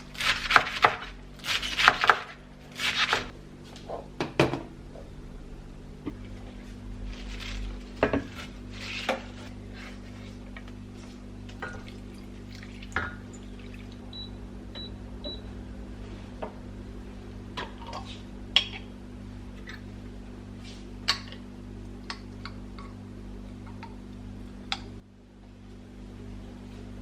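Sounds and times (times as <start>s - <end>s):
low appliance hum: 0.0s - 27.0s.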